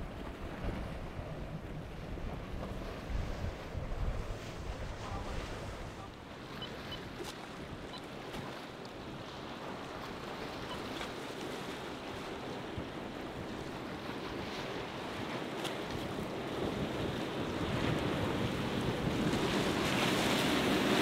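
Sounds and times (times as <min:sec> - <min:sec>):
wind on microphone: 0:00.0 - 0:10.9, 0:12.2 - 0:21.0
boat engines: 0:00.0 - 0:21.0
surf and choppy water: 0:00.0 - 0:21.0.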